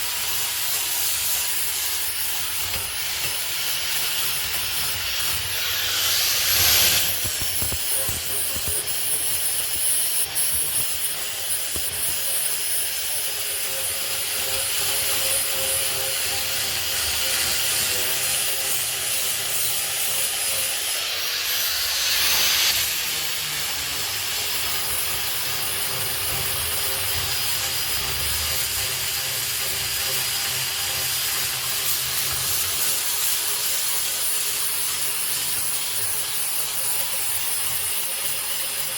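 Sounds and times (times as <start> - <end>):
angle grinder sanding wood: 0.0 - 38.9.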